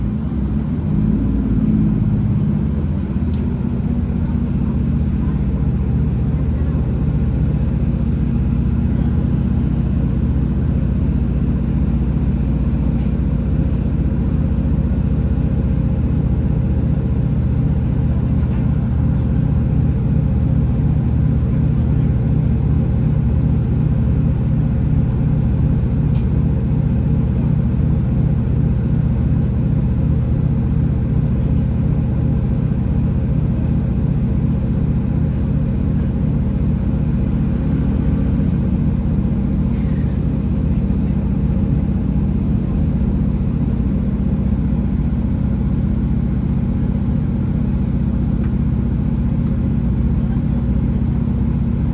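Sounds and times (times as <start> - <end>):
diesel engine droning: 0.0 - 51.9.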